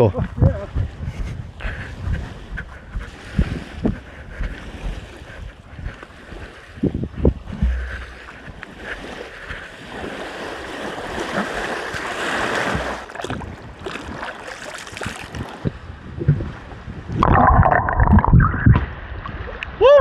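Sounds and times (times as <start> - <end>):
wind buffeting microphone: 0.0 - 20.0
lake water splashing: 1.5 - 19.8.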